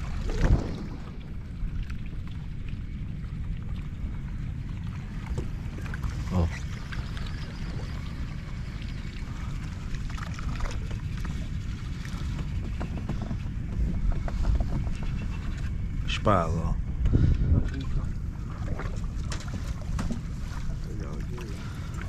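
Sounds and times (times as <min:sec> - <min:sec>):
boat engine low rumble: 0:00.0 - 0:22.0.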